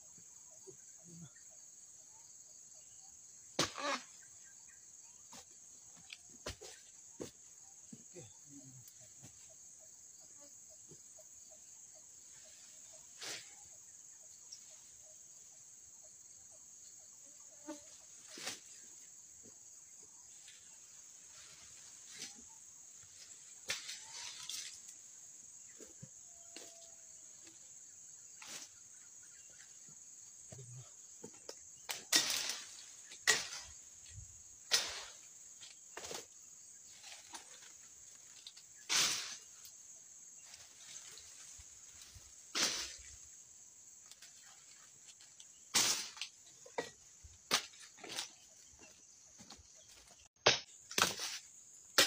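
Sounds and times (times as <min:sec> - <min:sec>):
insect buzz: 0:00.0 - 0:52.0.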